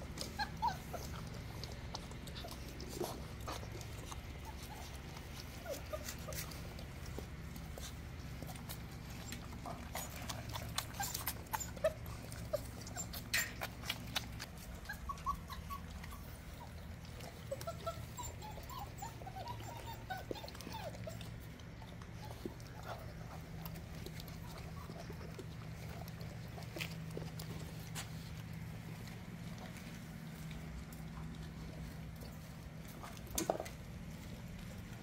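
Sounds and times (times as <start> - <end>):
puppies eating and drinking: 0.0 - 35.0
puppies squeaking and whimpering: 0.0 - 35.0.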